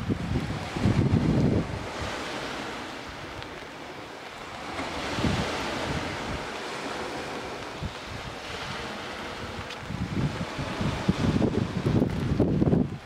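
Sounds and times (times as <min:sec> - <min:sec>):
waves washing onto pebble shore: 0:00.0 - 0:13.0
wind on microphone: 0:00.0 - 0:13.0.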